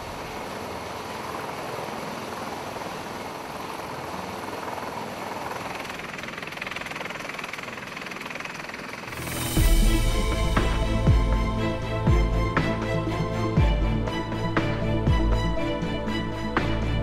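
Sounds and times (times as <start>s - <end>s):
helicopter engine and rotor: 0.4s - 17.0s.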